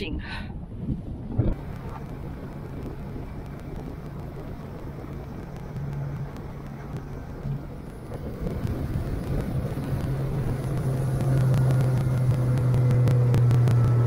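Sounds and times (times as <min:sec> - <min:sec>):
wind rushing: 0:00.5 - 0:14.0
outboard motor drone: 0:01.3 - 0:14.0.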